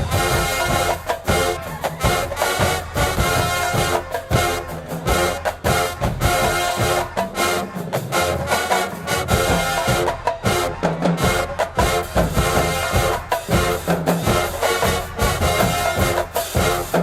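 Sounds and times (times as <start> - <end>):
brass holding chords: 0.0 - 17.0
drumline beat: 0.0 - 17.0.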